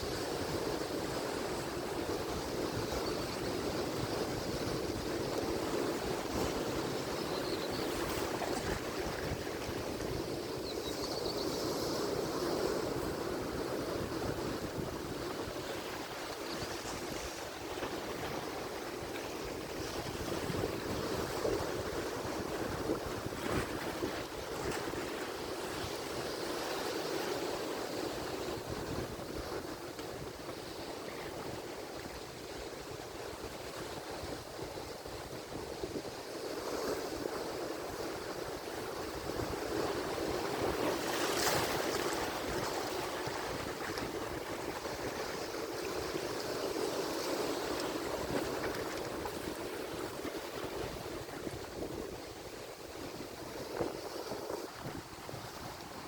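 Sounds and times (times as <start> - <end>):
waves breaking and washing in: 0.0 - 56.0.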